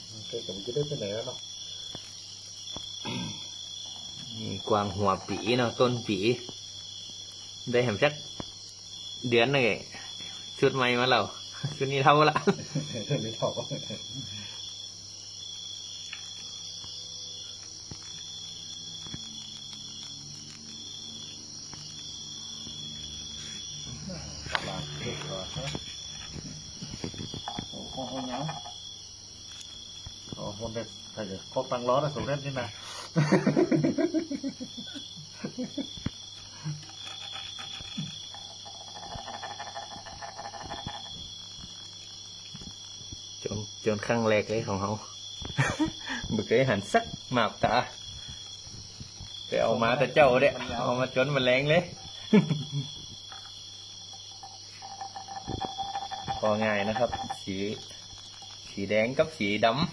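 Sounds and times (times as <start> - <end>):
high-pitched insect chirring: 0.0 - 59.9
stick rasping on beetle: 0.3 - 31.6, 35.9 - 43.4, 46.4 - 59.7.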